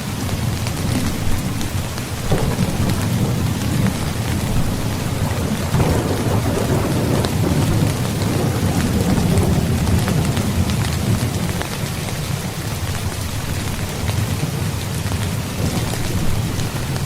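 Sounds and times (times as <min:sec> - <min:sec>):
rain drops spattering: 0:00.0 - 0:17.0
low rumble of thunder: 0:00.2 - 0:17.0.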